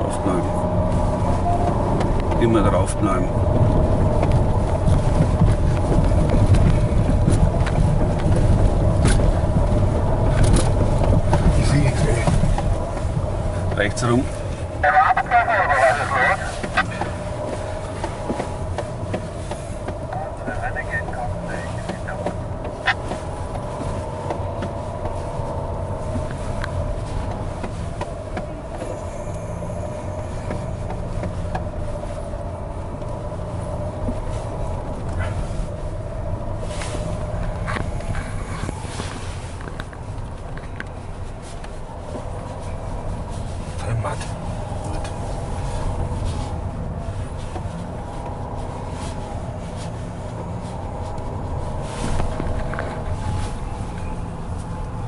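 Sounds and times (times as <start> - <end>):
diesel engine rumbling: 0.0 - 55.0.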